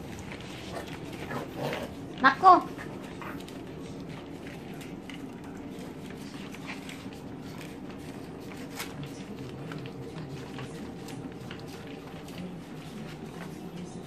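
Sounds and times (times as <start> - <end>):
dogs mouthing and licking: 0.0 - 14.0
plates and claws on tiles: 0.0 - 14.0.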